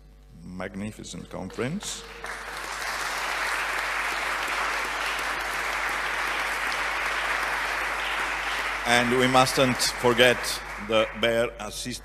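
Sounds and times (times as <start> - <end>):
audience applauding: 1.3 - 11.8.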